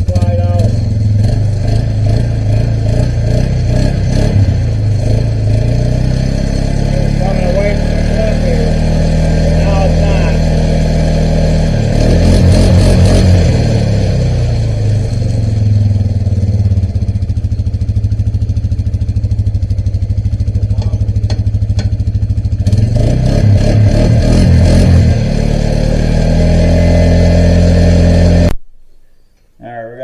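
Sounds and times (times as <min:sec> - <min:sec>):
loud engine running: 0:00.0 - 0:28.6.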